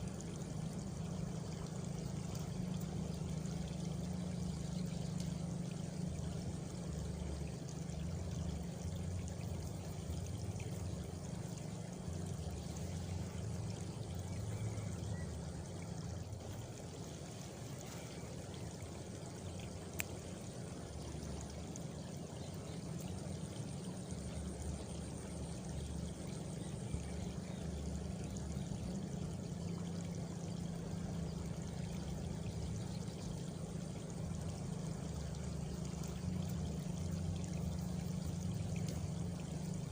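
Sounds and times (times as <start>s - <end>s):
faint insect trill: 0.0s - 39.9s
rushing water-like noise: 0.0s - 39.9s.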